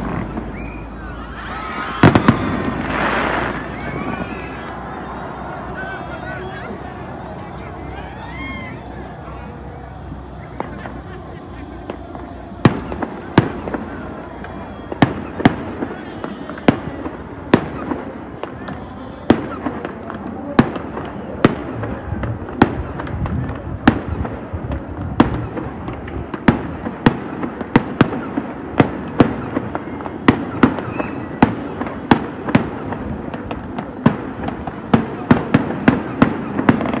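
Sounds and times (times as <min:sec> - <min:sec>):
fireworks banging: 0:00.0 - 0:37.0
fireworks crackle and rumble: 0:00.0 - 0:37.0.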